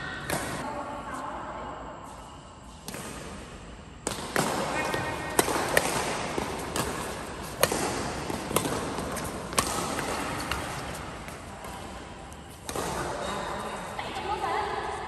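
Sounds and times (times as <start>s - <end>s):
rackets hitting shuttlecock in hall: 0.0s - 1.2s, 2.0s - 15.0s.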